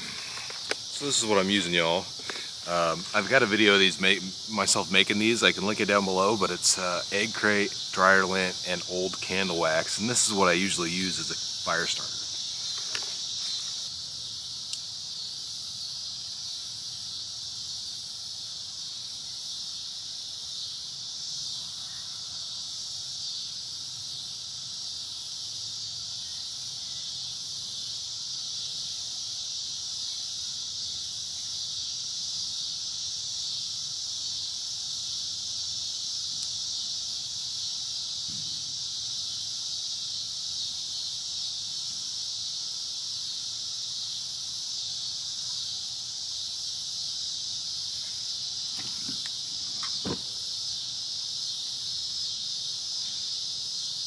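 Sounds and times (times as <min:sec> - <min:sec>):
insect chorus drone: 0:00.0 - 0:54.0.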